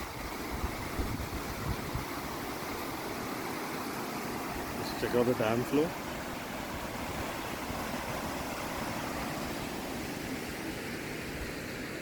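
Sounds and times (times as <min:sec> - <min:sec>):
water rushing from a dam: 0:00.0 - 0:12.0.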